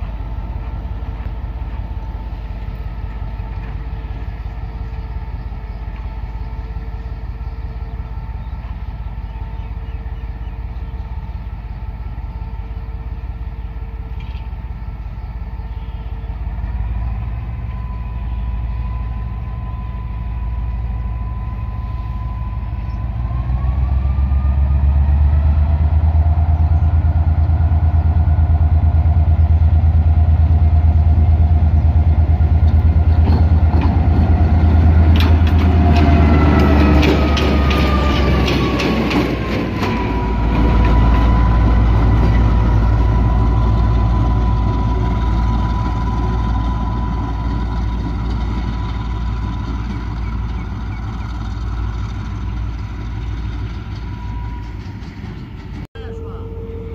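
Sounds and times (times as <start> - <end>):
wheels clanking on rails: 0.0 - 18.7, 23.2 - 56.9
engine whine: 0.0 - 56.9
locomotive engine drone: 0.0 - 56.9.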